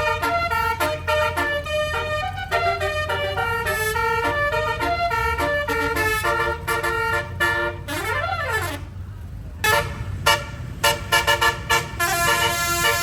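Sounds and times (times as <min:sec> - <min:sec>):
air horn trumpets playing melody: 0:00.0 - 0:08.9, 0:09.6 - 0:13.0
bus engine low rumble: 0:00.0 - 0:13.0.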